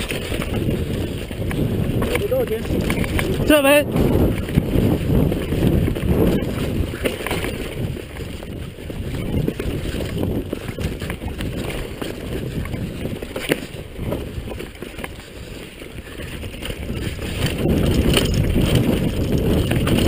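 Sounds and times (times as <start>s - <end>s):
wind rushing: 0.0s - 14.6s, 16.1s - 20.0s
bike rattling: 0.0s - 20.0s
knobby tyres on dirt: 0.0s - 20.0s
sharp clacks on bumps: 0.0s - 20.0s.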